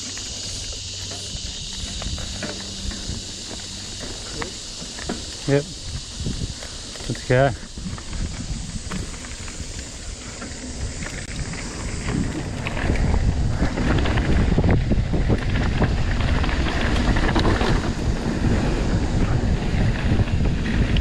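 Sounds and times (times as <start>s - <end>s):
mountain bike riding dirt trail: 0.0s - 21.0s
wind buffeting microphone: 0.0s - 21.0s.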